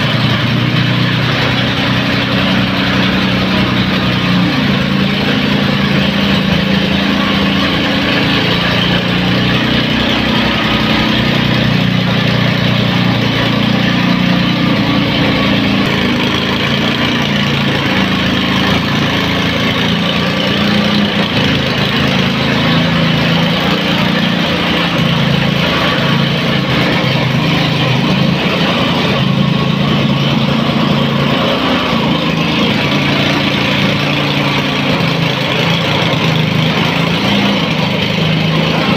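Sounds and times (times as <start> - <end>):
tamping rammer engine running: 0.0 - 38.9.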